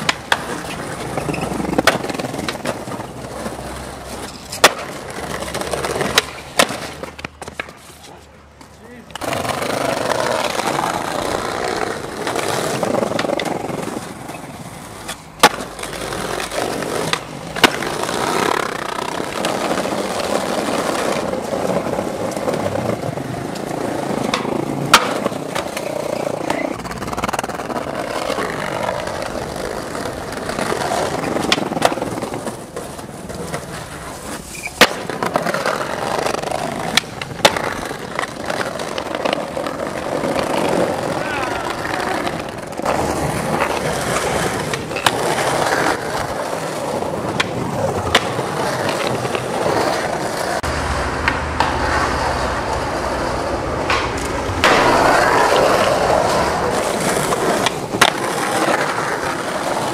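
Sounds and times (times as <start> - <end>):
skateboard striking the ground: 0.0 - 59.9
skateboard wheels rolling on bricks: 0.0 - 59.9.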